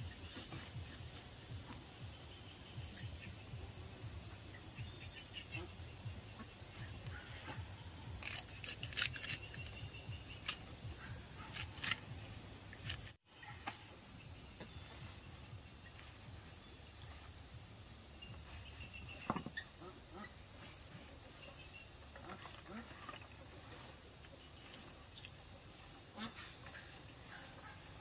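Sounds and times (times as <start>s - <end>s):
insects singing: 0.0s - 28.0s.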